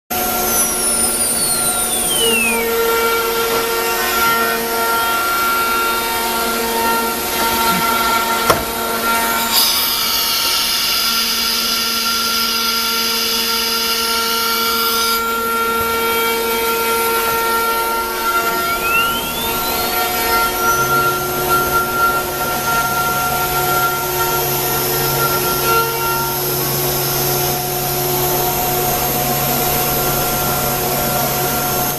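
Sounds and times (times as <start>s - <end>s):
cnc router spindle whine: 0.2s - 31.9s
higher bright machine whine: 0.2s - 31.9s.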